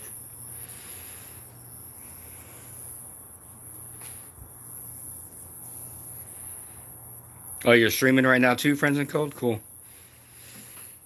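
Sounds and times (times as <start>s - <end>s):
crickets chirring: 0.0s - 11.0s
low steady hum: 0.0s - 11.0s.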